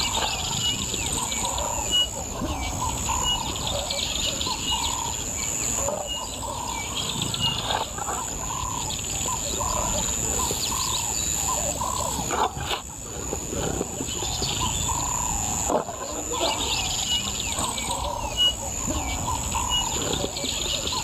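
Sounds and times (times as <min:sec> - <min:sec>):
birds calling: 0:00.0 - 0:21.0
high insect drone: 0:00.0 - 0:21.0.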